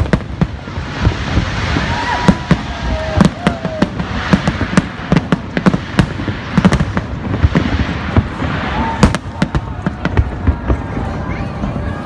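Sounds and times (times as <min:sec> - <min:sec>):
fireworks bangs and cracks: 0:00.0 - 0:12.0
rumble of fireworks display: 0:00.0 - 0:12.0.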